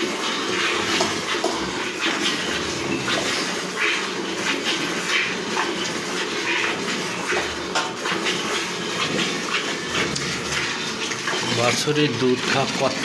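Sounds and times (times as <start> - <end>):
milk squirting into metal pail: 0.0 - 13.0.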